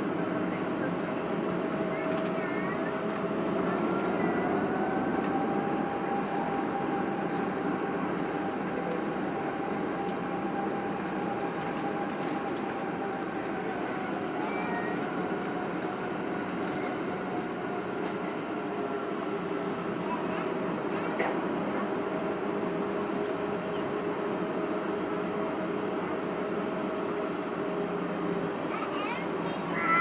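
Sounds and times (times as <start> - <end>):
jet engines humming in cabin: 0.0 - 30.0.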